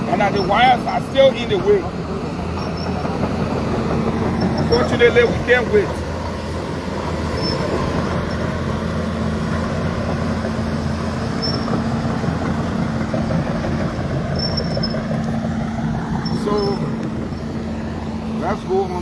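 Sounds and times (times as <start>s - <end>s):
high squeaks: 0.0s - 6.3s, 7.0s - 9.3s, 10.1s - 18.2s
diesel engine running: 0.0s - 19.0s.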